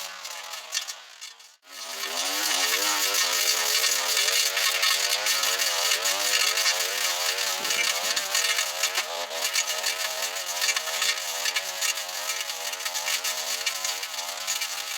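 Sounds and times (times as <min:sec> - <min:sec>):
small two-stroke engine running: 0:00.0 - 0:14.9.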